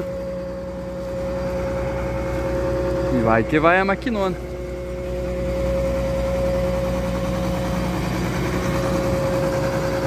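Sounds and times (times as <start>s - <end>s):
combine harvester engine hum: 0.0s - 10.0s
high whine: 0.0s - 10.0s.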